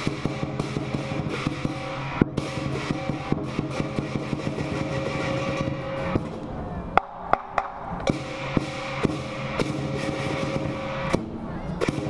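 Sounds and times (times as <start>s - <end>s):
drum beating fast rhythm: 0.0s - 6.4s, 7.0s - 12.0s.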